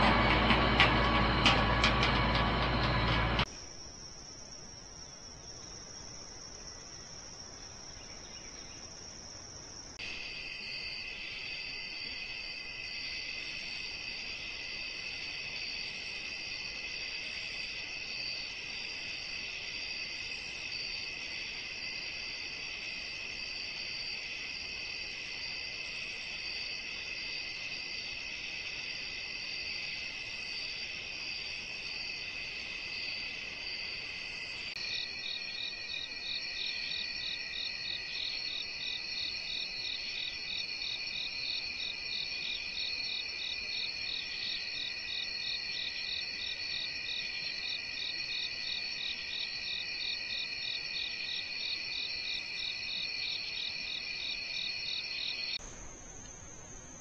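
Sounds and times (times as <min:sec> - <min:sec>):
rapid pulsing insect call: 0:00.0 - 0:57.0
insects trilling: 0:03.4 - 0:57.0.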